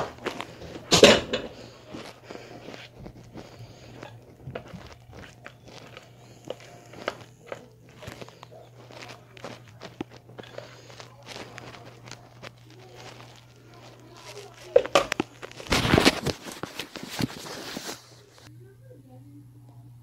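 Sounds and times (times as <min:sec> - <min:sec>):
spoon stirring batter in a bowl: 0:00.0 - 0:17.4
faint low hum: 0:00.0 - 0:20.0.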